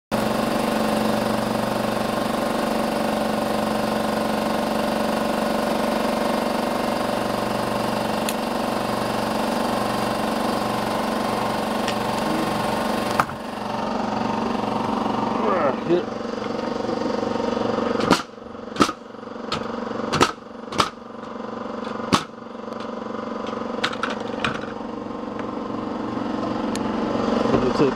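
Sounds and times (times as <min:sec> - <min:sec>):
small engine running: 0:00.1 - 0:27.9.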